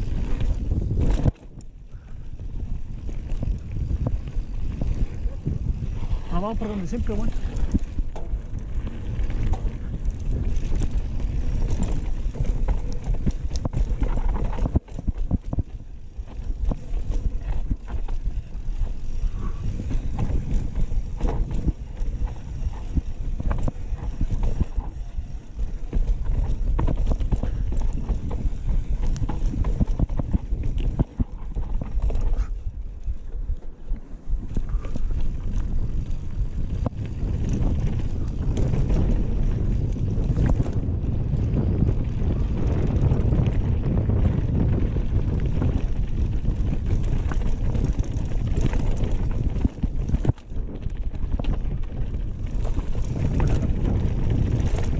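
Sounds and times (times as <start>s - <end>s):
bike rattling: 0.0s - 54.9s
tyres rolling over dirt and stones: 0.0s - 54.9s
wind rumble on microphone: 0.0s - 54.9s.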